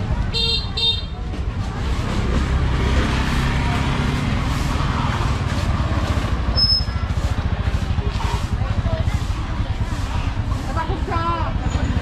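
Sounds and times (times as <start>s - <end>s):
vehicle engine running: 1.6s - 12.0s.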